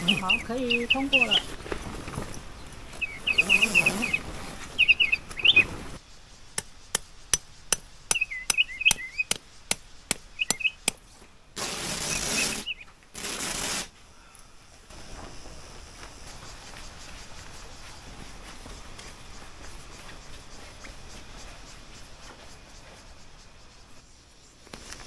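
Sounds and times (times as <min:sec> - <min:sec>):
small birds chirping: 0:00.0 - 0:13.0, 0:14.0 - 0:25.0.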